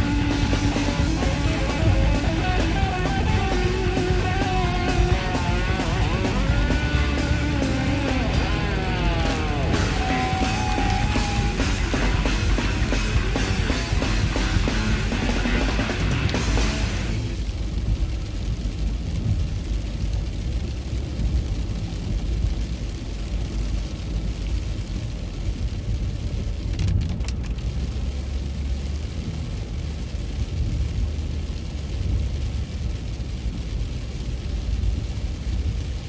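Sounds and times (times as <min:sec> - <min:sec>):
rain and tyre spray hiss: 0:00.0 - 0:36.0
road and engine rumble: 0:00.0 - 0:36.0.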